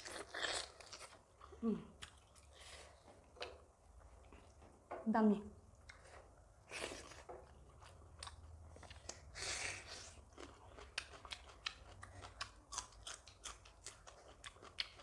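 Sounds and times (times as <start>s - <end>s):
chewing and crunching food: 0.0s - 4.8s, 5.7s - 15.0s.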